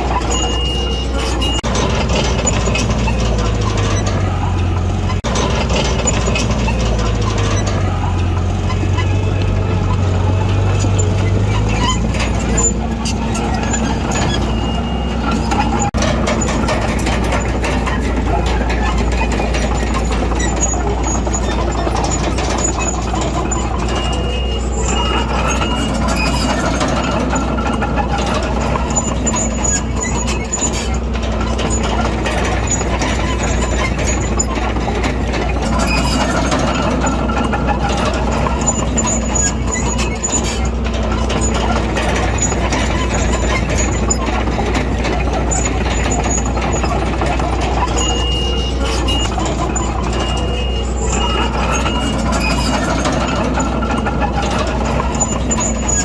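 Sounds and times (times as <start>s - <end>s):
heavy diesel engines running: 0.0s - 56.0s
truck reversing beeper: 0.0s - 56.0s.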